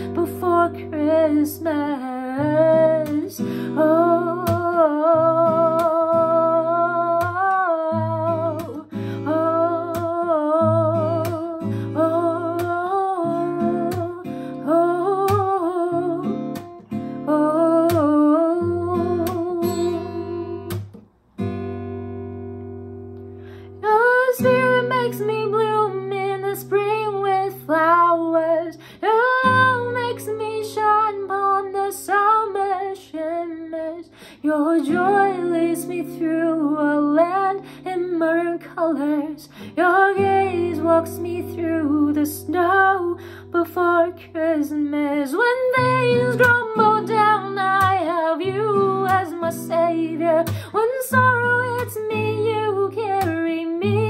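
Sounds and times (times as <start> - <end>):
woman singing: 0.0 - 20.8, 23.7 - 54.0
strummed acoustic guitar: 0.0 - 54.0.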